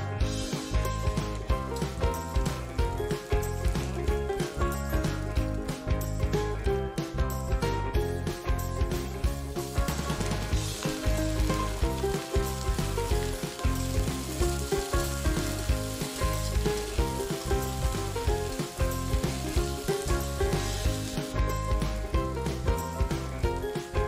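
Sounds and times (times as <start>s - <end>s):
prawns sizzling in hot oil: 0.2s - 6.6s, 8.2s - 24.0s.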